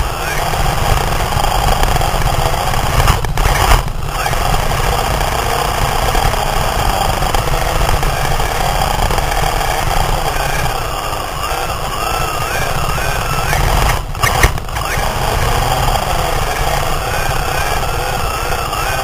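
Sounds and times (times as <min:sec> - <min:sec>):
chassis vibration and tyre rumble: 0:00.0 - 0:19.0
toy car motor whine: 0:00.0 - 0:19.0.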